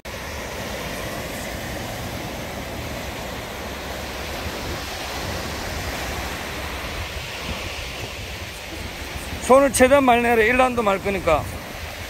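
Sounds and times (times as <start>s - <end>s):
small waves breaking on sand: 0.0s - 12.0s.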